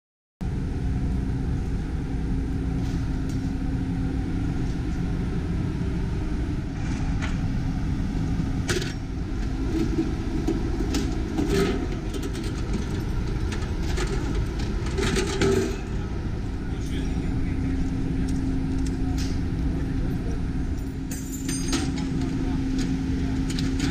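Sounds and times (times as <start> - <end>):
steady low rumble: 0.4 - 23.9.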